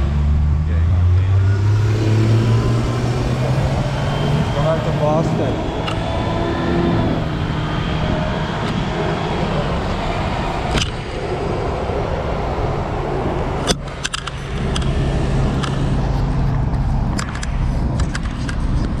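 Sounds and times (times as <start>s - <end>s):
road traffic: 0.0s - 19.0s
vehicle engine humming: 0.0s - 19.0s.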